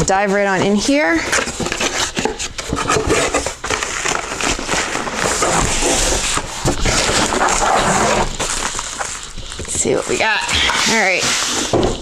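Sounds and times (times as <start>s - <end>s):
cardboard box being opened: 0.8s - 12.0s
plastic mailer crinkling: 0.8s - 12.0s.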